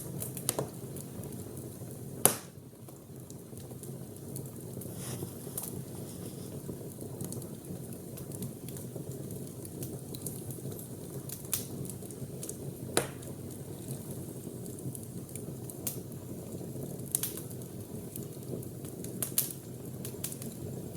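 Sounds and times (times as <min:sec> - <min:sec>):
fire crackles and pops: 0:00.0 - 0:20.9
wood fire burning: 0:00.0 - 0:20.9.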